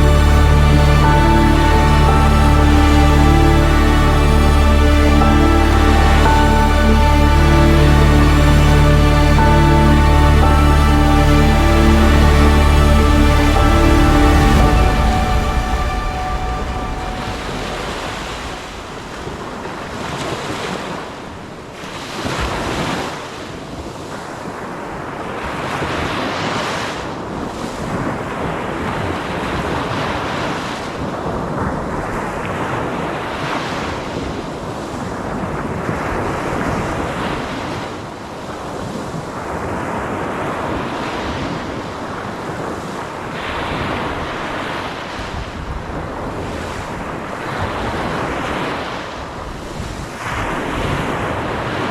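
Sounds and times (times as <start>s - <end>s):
waves breaking: 0.0s - 31.4s, 32.0s - 51.9s.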